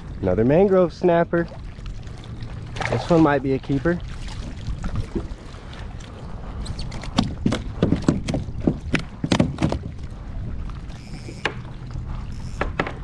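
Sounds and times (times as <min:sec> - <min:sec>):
water sloshing around kayak: 0:00.0 - 0:13.0.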